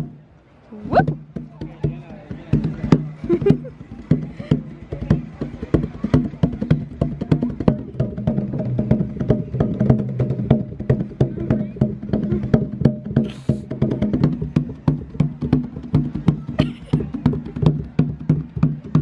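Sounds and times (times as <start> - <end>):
hand drums struck: 0.8 - 19.0.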